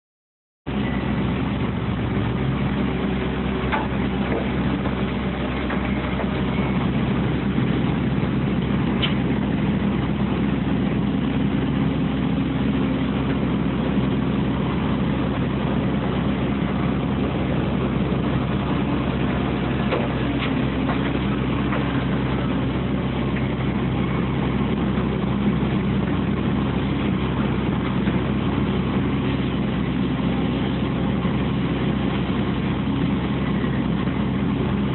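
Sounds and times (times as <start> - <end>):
heavy diesel engines running: 0.7 - 34.9.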